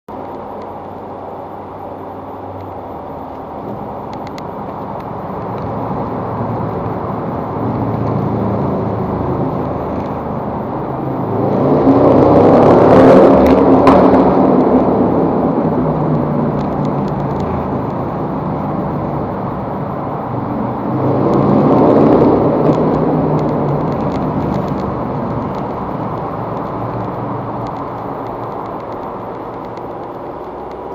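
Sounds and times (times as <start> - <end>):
vehicles droning through tunnel: 0.1 - 30.9.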